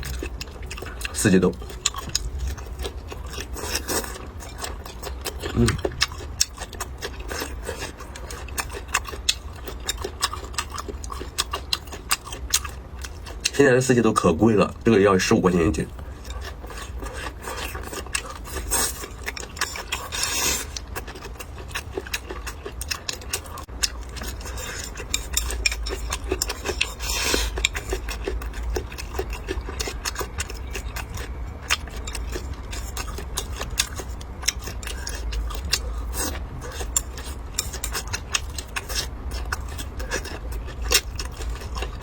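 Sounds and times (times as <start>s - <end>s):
chewing and crunching: 0.0s - 42.0s
steady low hum: 0.0s - 42.0s.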